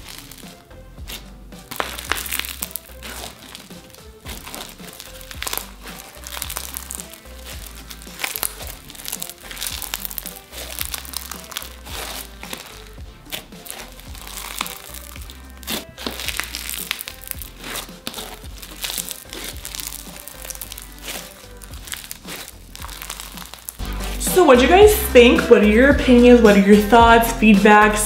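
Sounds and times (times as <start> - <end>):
slime crunching and crackling: 0.0 - 25.4
background music: 0.0 - 28.0.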